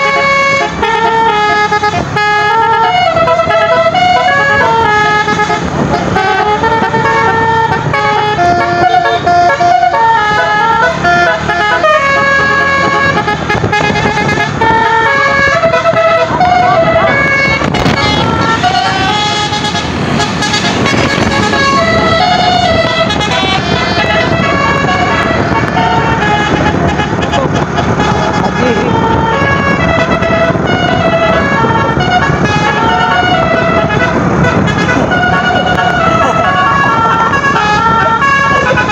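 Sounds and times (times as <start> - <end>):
bus engine running: 0.0 - 38.9
musical air horn melody: 0.0 - 38.9.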